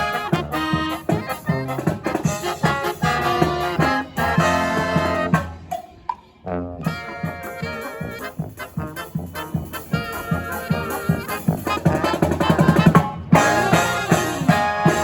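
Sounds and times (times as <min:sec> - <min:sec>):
brass marching band playing jazz: 0:00.0 - 0:15.0
drums keeping steady beat: 0:00.0 - 0:15.0.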